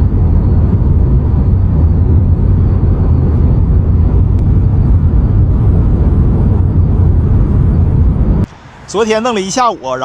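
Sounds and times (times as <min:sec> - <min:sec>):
road and wind rumble: 0:00.0 - 0:10.0.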